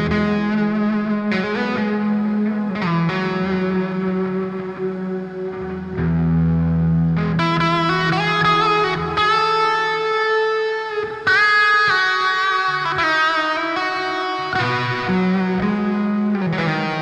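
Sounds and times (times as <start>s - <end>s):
ambient electric guitar notes: 0.0s - 17.0s.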